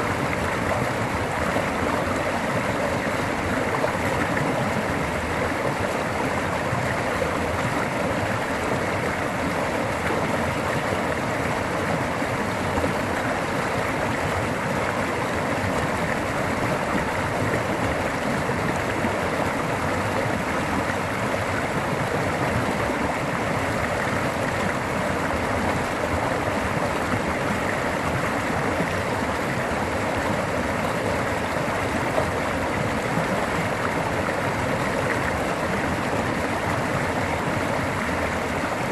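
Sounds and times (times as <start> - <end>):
flood water rushing: 0.0 - 38.9.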